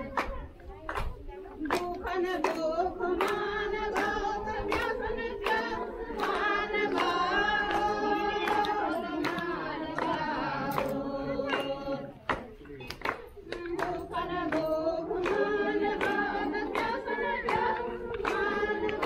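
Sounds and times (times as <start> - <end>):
hand claps: 0.0 - 19.0
group singing devotional song: 1.6 - 12.4, 13.4 - 19.0.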